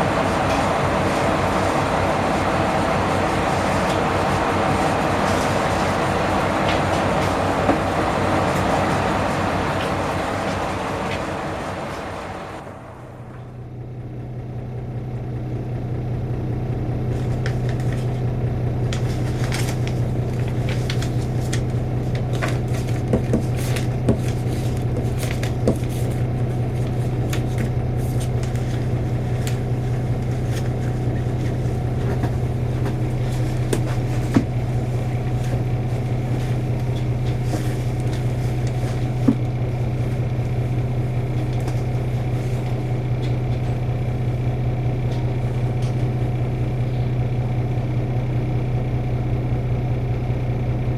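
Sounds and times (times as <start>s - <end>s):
train rumble: 0.0s - 14.7s, 16.8s - 47.3s
diesel railcar engine idling: 0.0s - 50.9s.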